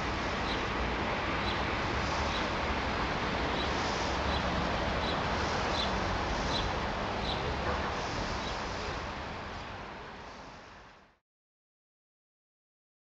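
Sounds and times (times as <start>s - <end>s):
outdoor rumble and hiss: 0.0s - 11.2s.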